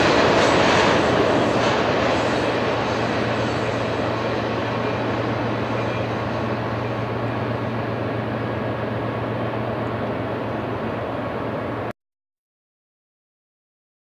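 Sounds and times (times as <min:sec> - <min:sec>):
freight train rolling on rails: 0:00.0 - 0:11.9
low hum: 0:00.0 - 0:11.9.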